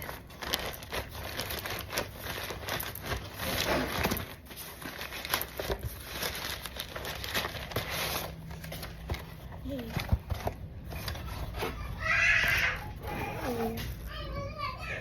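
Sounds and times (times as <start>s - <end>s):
packaging crinkling: 0.0s - 14.1s.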